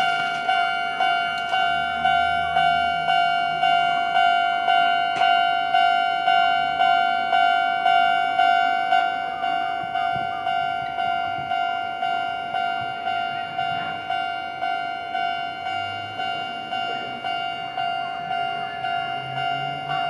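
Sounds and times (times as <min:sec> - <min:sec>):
level crossing alarm bell: 0:00.0 - 0:20.0.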